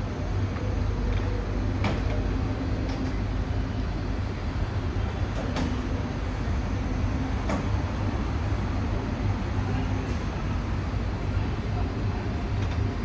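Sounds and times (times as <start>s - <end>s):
faint hum: 0.0s - 13.0s
tram rumbling on rails: 0.0s - 13.0s.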